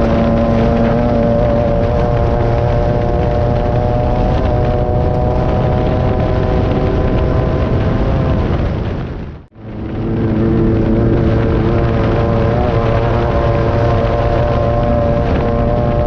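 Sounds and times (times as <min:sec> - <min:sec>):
buggy engine running hard: 0:00.0 - 0:16.0.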